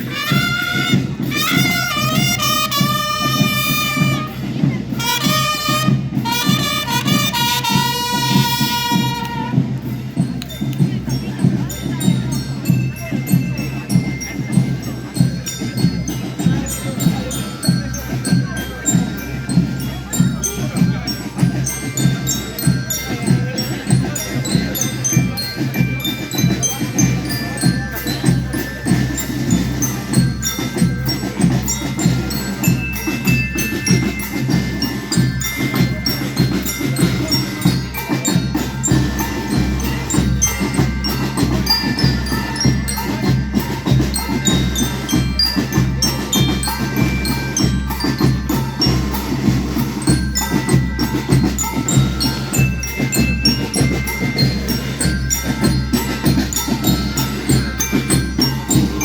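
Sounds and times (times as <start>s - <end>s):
bell lyre melody: 0.0s - 59.0s
marching snare and bass drums: 0.0s - 59.0s.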